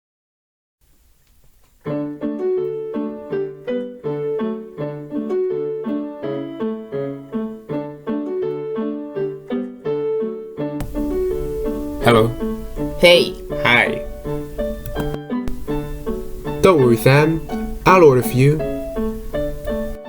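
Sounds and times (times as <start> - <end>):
lively piano music: 1.8 - 20.0.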